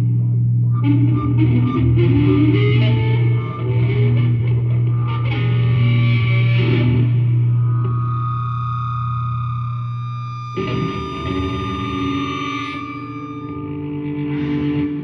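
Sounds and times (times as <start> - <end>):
effects-laden electric guitar: 0.0 - 15.0
held low note: 0.0 - 15.0.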